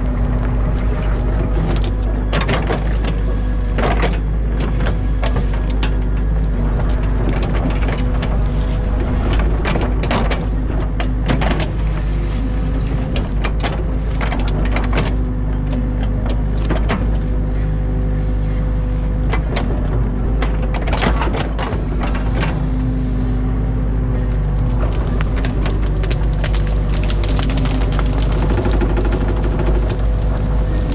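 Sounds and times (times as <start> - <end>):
excavator diesel engine: 0.0 - 30.9.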